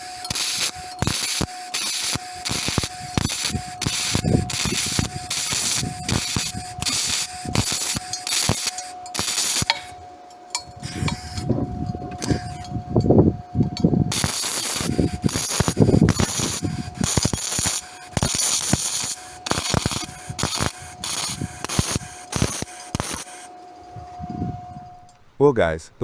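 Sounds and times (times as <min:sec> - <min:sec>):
welder arc crackling and sputtering: 0:00.0 - 0:25.1.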